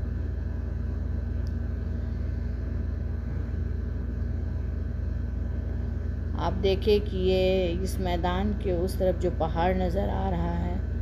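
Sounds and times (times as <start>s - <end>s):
faint steady hum: 0.0s - 11.0s
steady low rumble: 0.0s - 11.0s.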